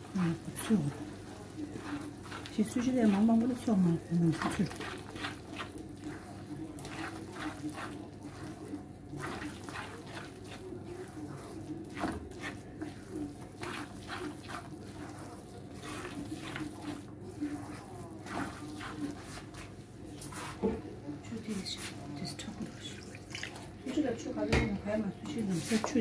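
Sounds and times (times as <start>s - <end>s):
wooden spatula scraping a pan: 0.0s - 24.0s, 25.2s - 26.0s.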